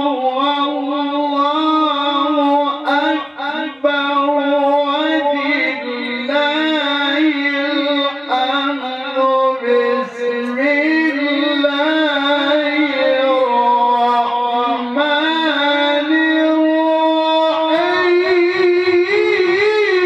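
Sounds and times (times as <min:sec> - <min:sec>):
person reciting melodically: 0:00.0 - 0:20.0.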